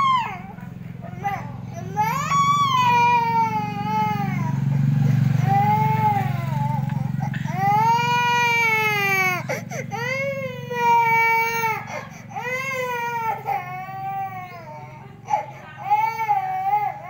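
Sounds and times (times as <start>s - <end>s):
toddler girl crying: 0.0s - 4.6s, 5.4s - 17.0s.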